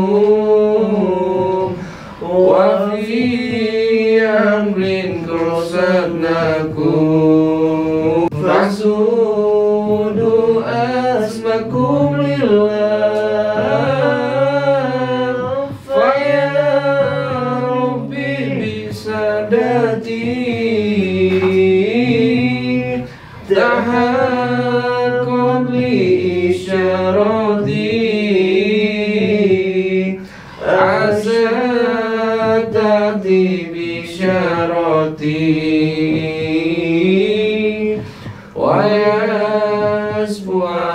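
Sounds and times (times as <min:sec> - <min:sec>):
voices chanting together: 0:00.0 - 0:40.9.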